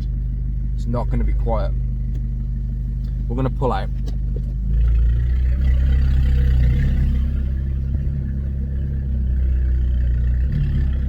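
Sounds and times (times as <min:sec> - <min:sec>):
car engine low drone: 0:00.0 - 0:11.0.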